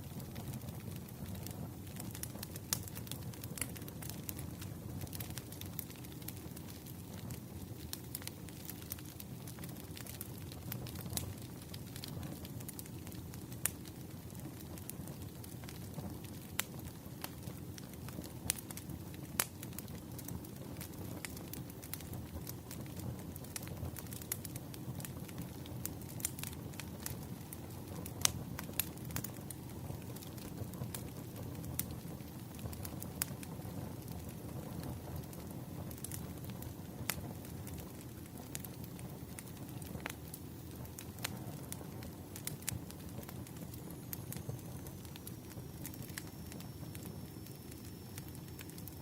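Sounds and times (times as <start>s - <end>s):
logs crackling and popping: 0.0s - 49.0s
low rumble of flames: 0.0s - 49.0s
wood fire burning: 0.0s - 49.0s.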